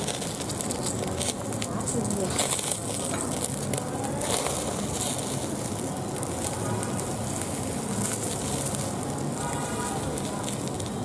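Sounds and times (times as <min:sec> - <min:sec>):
charcoal crackling and popping: 0:00.0 - 0:11.0
snails sizzling on a grill: 0:00.0 - 0:11.0.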